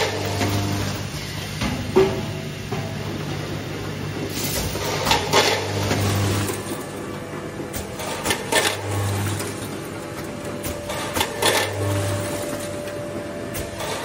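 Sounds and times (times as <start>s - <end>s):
low mains hum: 0.0s - 14.0s.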